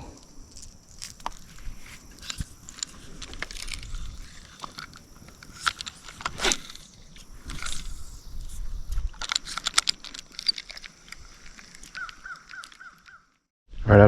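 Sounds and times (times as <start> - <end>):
small clicks of handling: 0.1 - 13.4.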